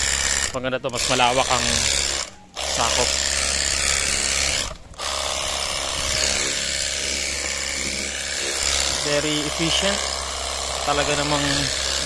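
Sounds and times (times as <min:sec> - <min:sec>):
pressure washer pump humming: 0:00.0 - 0:12.0.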